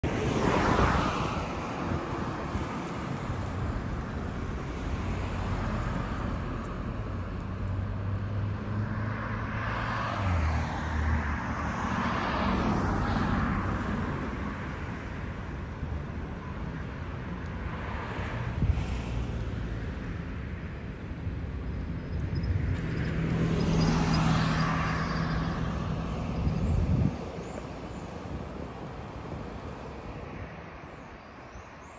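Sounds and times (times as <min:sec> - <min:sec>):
road traffic noise: 0:00.0 - 0:31.9.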